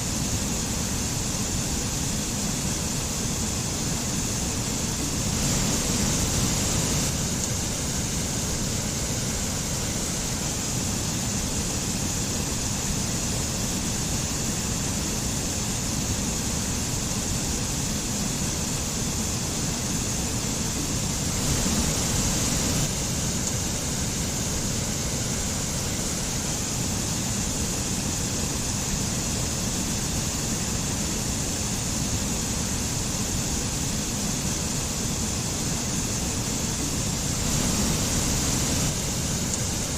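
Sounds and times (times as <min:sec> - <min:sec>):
stream and waterfall running: 0:00.1 - 0:39.9.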